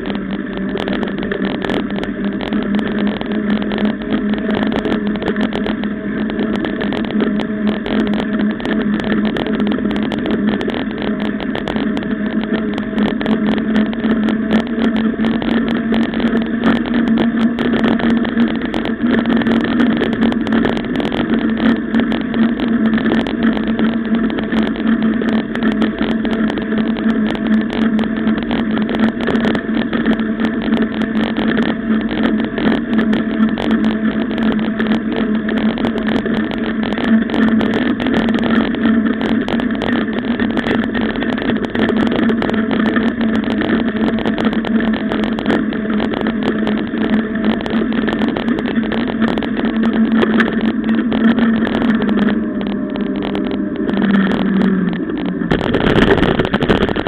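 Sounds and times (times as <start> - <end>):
bike rattles and clicks: 0.0 - 57.0
tyres and wind humming drone: 0.0 - 57.0.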